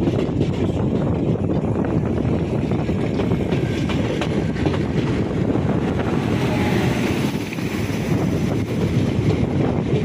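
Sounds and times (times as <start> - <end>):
moving train rumble: 0.0 - 10.0
passing train rushing: 0.0 - 10.0
wind buffeting microphone: 0.0 - 10.0.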